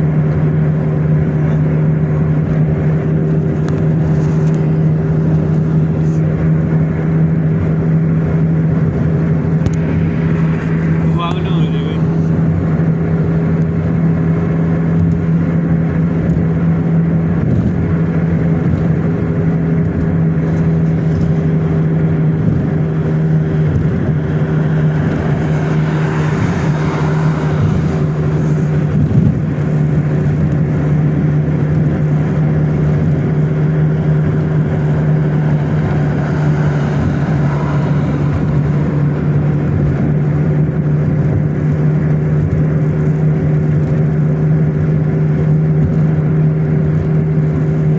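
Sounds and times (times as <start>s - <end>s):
car engine hum: 0.0s - 47.9s
road and tyre noise: 0.0s - 47.9s.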